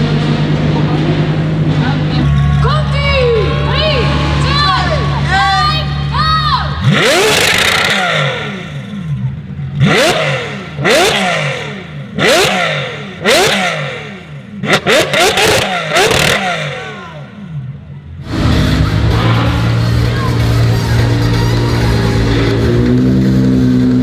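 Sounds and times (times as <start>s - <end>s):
sports car engine revving: 0.0s - 24.0s.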